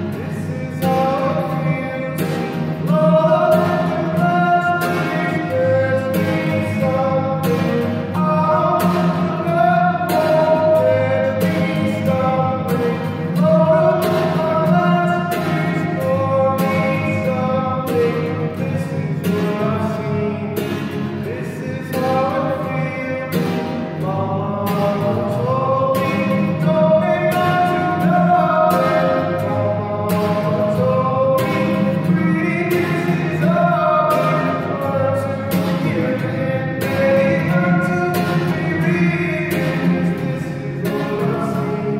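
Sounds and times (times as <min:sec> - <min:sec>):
man singing: 0:00.0 - 0:41.9
strummed acoustic guitar: 0:00.0 - 0:41.9.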